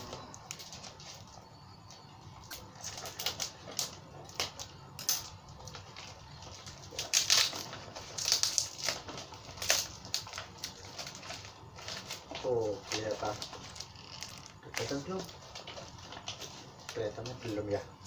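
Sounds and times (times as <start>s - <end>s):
plastic wrap crinkling and tearing: 0.0s - 17.8s.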